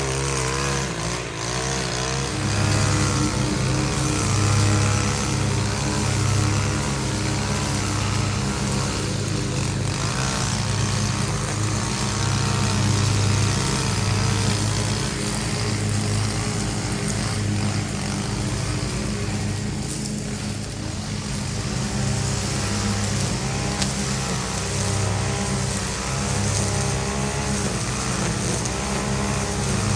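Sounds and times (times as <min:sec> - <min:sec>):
string trimmer engine cutting: 0:00.0 - 0:29.9.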